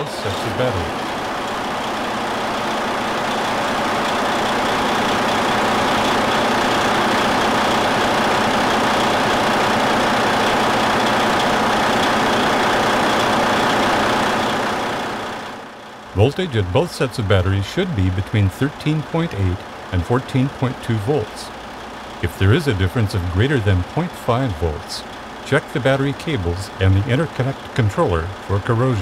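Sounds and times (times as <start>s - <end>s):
truck diesel engine idling: 0.0s - 29.0s.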